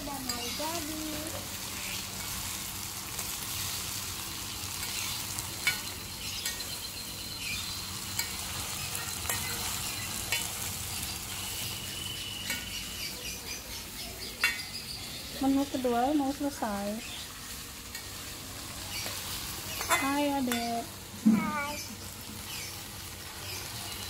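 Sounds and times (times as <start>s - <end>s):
eggplant sizzling in wok: 0.0s - 24.0s.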